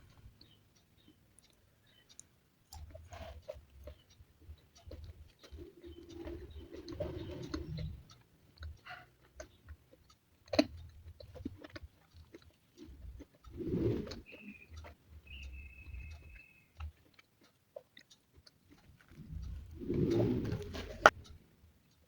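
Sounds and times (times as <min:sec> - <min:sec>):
close-miked chewing: 0:00.0 - 0:22.0
wet mouth clicks: 0:00.4 - 0:21.4.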